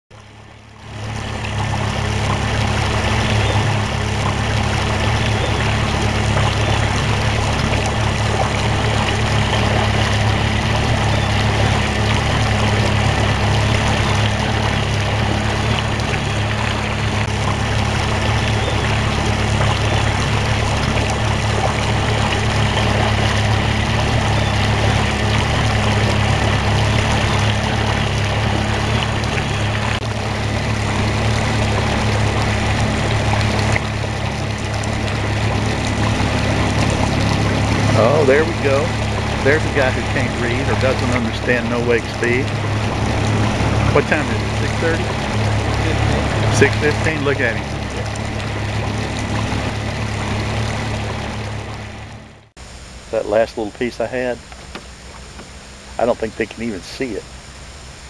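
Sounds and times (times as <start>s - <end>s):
outboard motor running: 0.1s - 58.0s
water rushing past hull: 0.1s - 58.0s.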